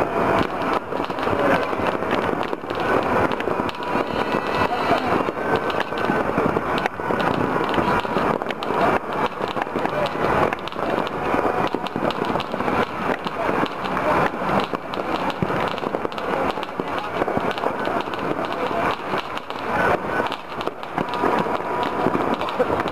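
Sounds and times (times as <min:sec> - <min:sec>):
firecrackers popping and crackling: 0:00.0 - 0:22.9.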